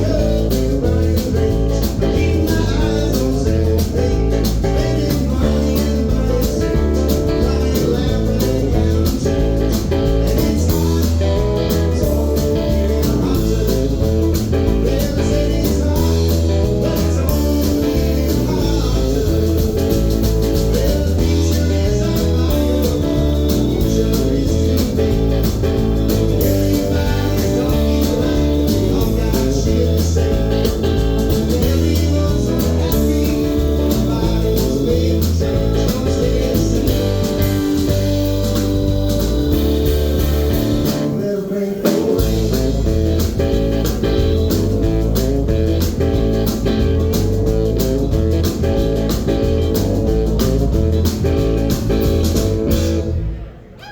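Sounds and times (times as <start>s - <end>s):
person singing: 0.0s - 45.0s
live band playing: 0.0s - 53.9s.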